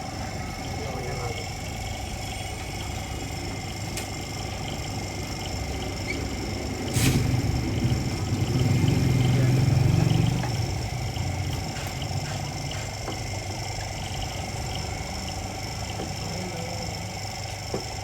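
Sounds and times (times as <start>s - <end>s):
engine running hum: 0.0s - 18.0s.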